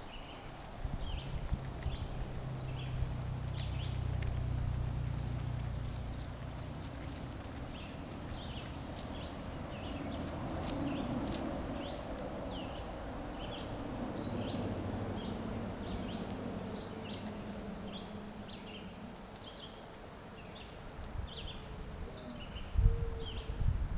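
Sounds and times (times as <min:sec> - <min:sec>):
birds chirping: 0:00.0 - 0:04.7, 0:05.3 - 0:23.6
low background rumble: 0:00.0 - 0:23.9.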